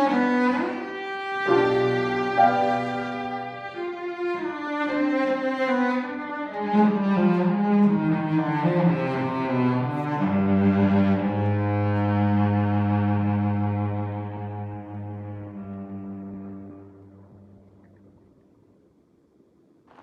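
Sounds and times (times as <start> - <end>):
cello bowed notes: 0.0 - 18.0.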